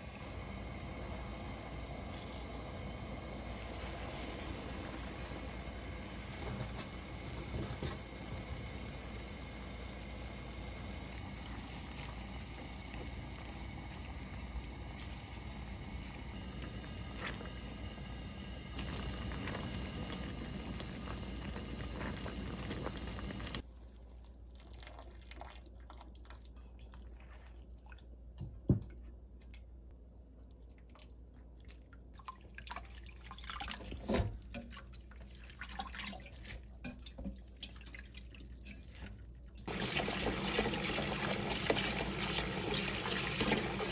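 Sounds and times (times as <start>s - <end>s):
pot of water boiling: 0.0s - 26.1s, 32.3s - 43.9s.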